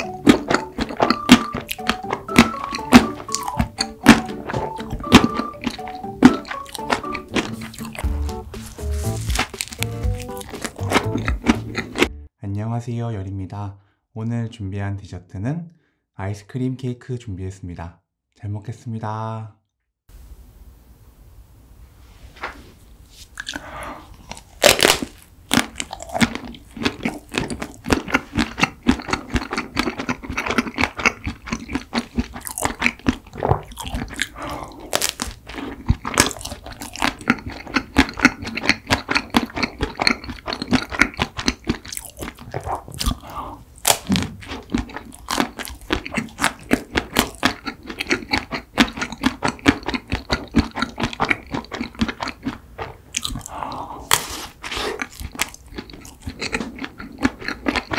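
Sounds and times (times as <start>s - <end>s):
chewing and crunching: 0.0s - 12.1s, 23.3s - 57.9s
ice cream treat crunching: 0.0s - 12.1s, 23.3s - 57.9s.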